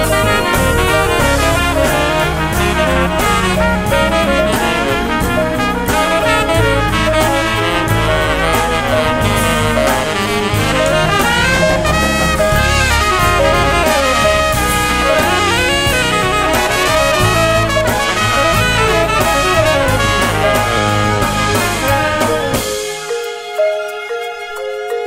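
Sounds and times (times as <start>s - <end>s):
instrumental jazz music: 0.0s - 25.0s.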